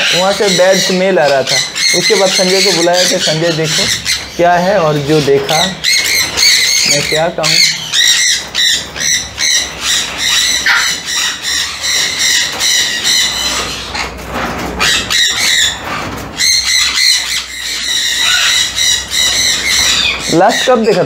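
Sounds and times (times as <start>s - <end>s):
parrot squawking: 0.0s - 21.0s.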